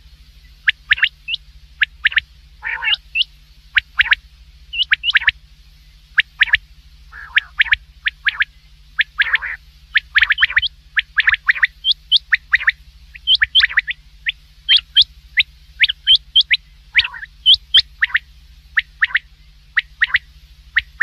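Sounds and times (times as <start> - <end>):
steady low hum: 0.0 - 21.0
quail calling: 0.6 - 5.4, 6.1 - 21.0.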